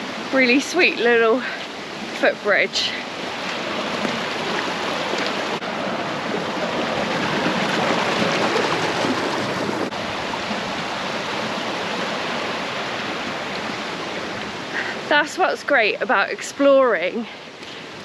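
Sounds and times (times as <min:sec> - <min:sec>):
stream flowing water: 0:00.0 - 0:18.0.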